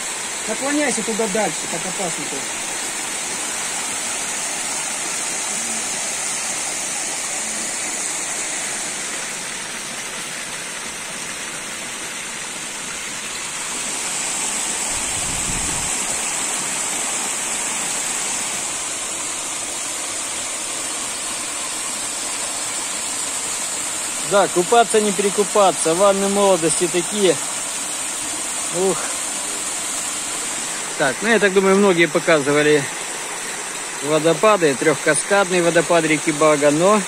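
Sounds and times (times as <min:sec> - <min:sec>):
waterfall rushing and splashing: 0:00.0 - 0:37.0.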